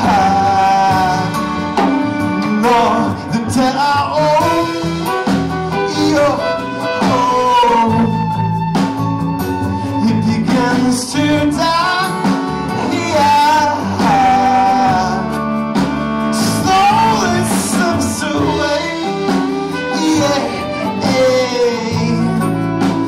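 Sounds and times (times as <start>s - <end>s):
man singing: 0.0s - 8.5s, 9.8s - 23.0s
drums: 0.0s - 23.0s
fiddle: 0.0s - 23.0s
strummed acoustic guitar: 0.0s - 23.0s
upright bass: 0.0s - 23.0s.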